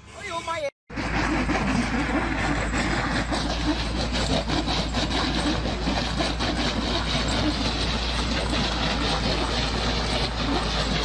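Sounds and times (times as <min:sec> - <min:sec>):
truck engine drone: 0:00.9 - 0:11.0
rattling and clattering: 0:01.0 - 0:11.0.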